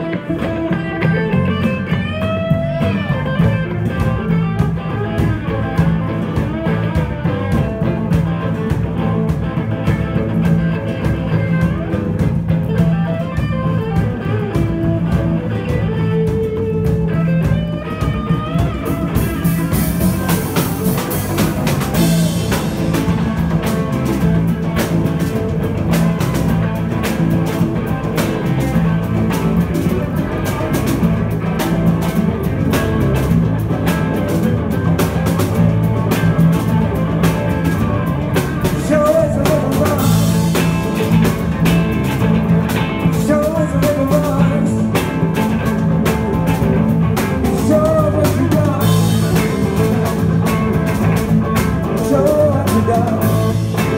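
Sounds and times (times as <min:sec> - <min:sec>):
bass guitar: 0:00.0 - 0:53.9
drum kit beat: 0:00.0 - 0:53.9
electric guitars: 0:00.0 - 0:53.9.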